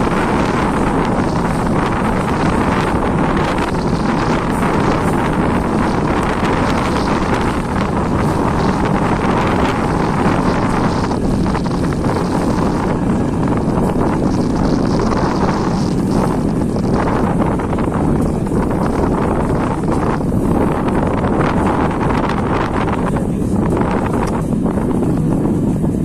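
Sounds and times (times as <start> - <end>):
passenger train running: 0.0 - 26.0
wind buffeting microphone: 0.0 - 26.0.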